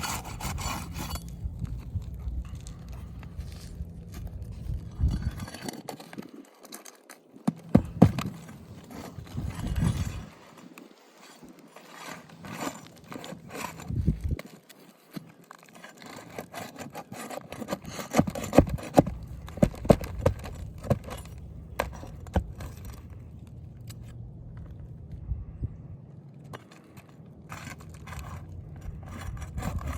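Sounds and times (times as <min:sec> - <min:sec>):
scraping on roof shingles: 0:00.0 - 0:23.2, 0:26.6 - 0:29.9.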